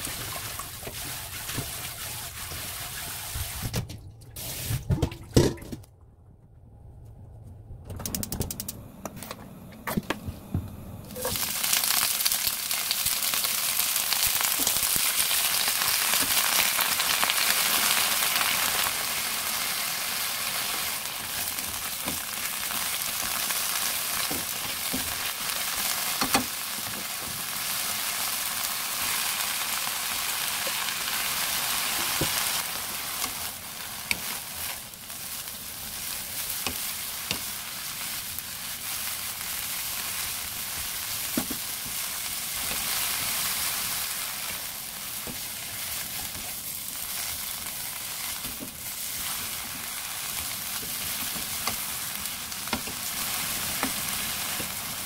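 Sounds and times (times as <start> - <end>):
spinach sizzling in hot oil: 0.0 - 3.7, 11.2 - 55.0.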